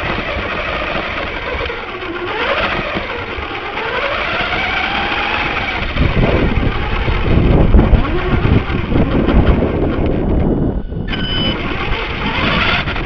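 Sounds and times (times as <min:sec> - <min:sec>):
toy car motor running: 0:00.0 - 0:10.3, 0:10.9 - 0:13.0
low rumble with knocks: 0:00.0 - 0:13.0.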